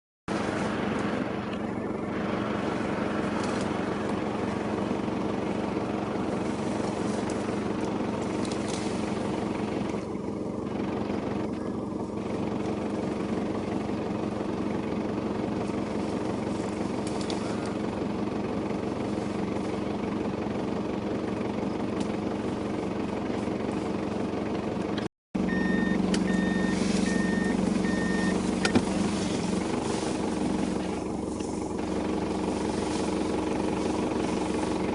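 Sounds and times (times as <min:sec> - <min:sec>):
vehicle engine idling: 0:00.3 - 0:34.9.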